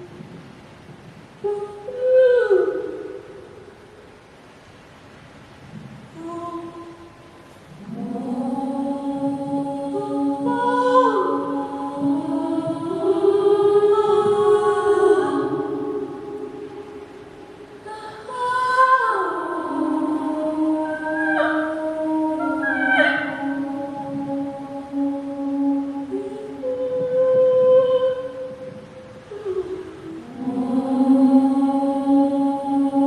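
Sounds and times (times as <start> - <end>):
choir singing held chords: 6.2 - 33.0.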